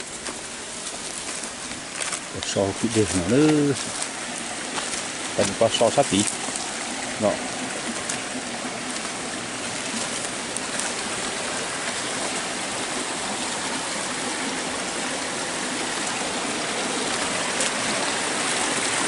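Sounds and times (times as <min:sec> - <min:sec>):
stream rushing over stones: 0:00.0 - 0:19.0.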